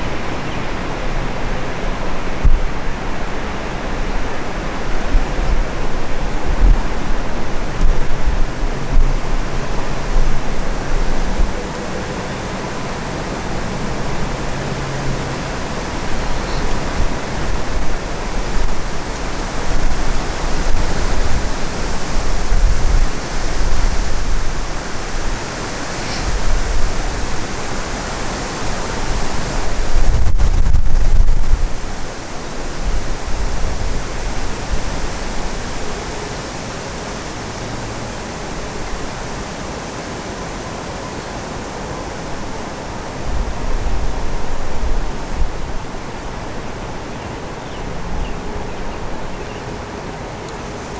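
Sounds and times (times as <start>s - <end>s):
wind rumbling on microphone: 0.0s - 39.8s, 41.0s - 50.9s
strong wind gusting: 0.0s - 50.9s.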